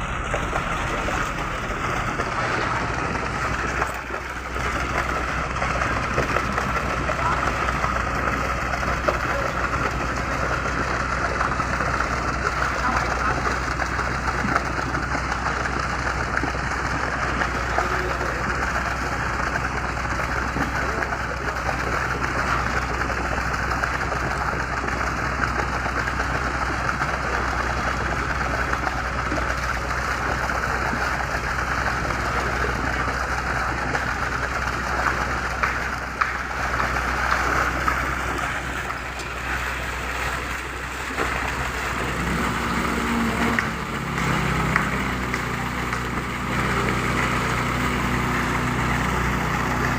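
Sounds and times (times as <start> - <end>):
low hum: 0.0 - 49.9
pump truck engine running: 0.0 - 49.9.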